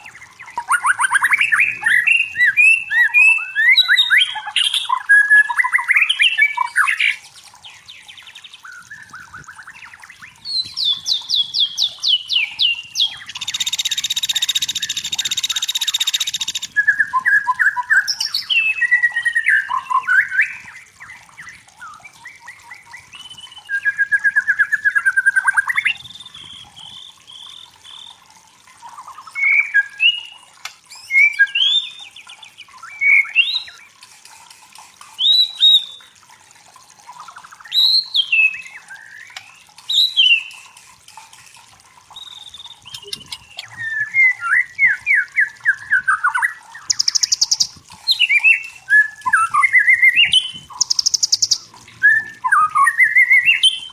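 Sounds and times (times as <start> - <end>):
bird singing trills and whistles: 0.0 - 34.0, 35.2 - 36.2, 37.1 - 40.8, 42.1 - 53.9.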